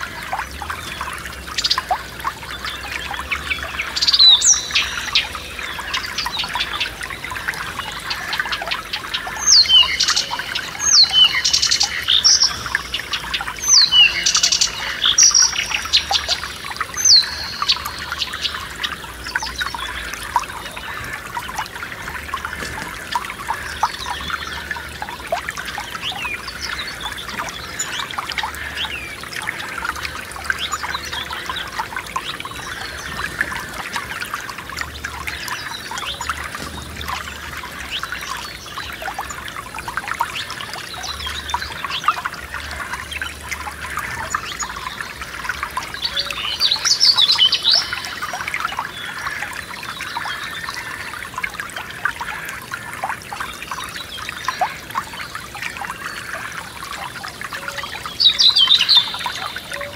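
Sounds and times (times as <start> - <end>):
stream trickling over stones: 0.0 - 59.9
birds chirping: 0.3 - 52.8, 57.3 - 59.9.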